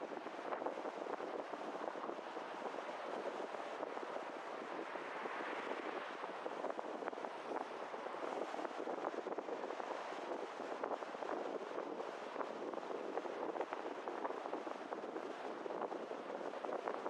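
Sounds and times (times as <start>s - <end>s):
wind and road noise from car: 0.0s - 17.0s.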